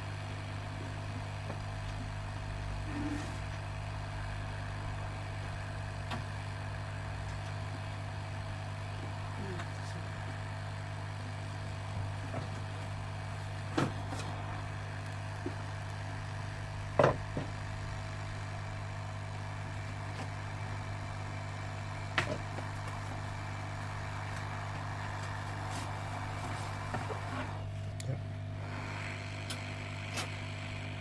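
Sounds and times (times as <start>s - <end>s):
equipment hum: 0.6s - 31.0s.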